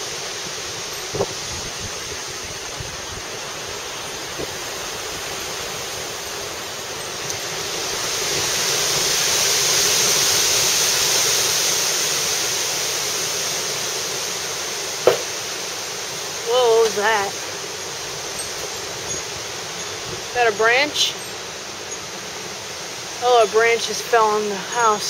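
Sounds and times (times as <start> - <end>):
wind gusting through trees: 0.0 - 25.0.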